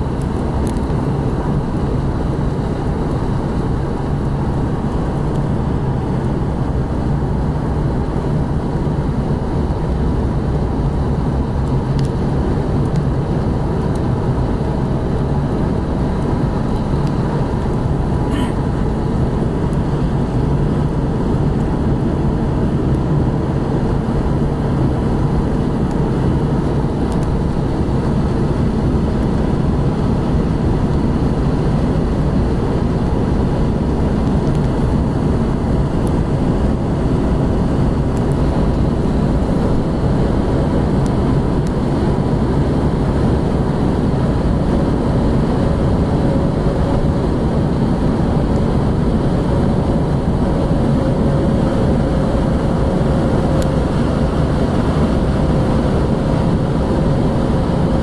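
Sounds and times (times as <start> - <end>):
car engine cruising: 0.0 - 58.0
wind noise: 0.0 - 58.0.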